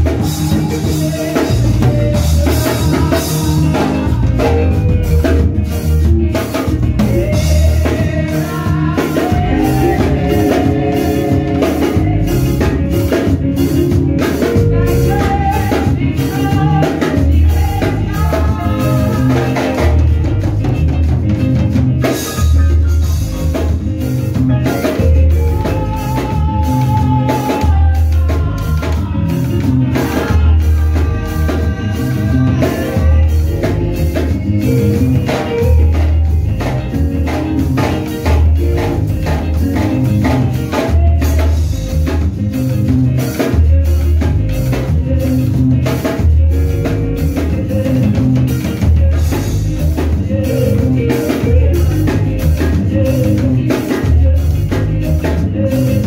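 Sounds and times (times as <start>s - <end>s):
drum-kit beat: 0.0s - 56.0s
heavy bass line: 0.0s - 56.0s.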